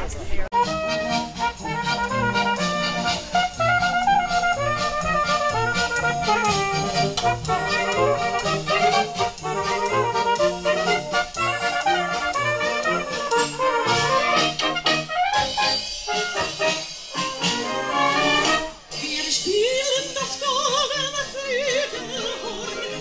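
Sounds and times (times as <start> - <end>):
brass band playing lively tune: 0.5 - 23.0.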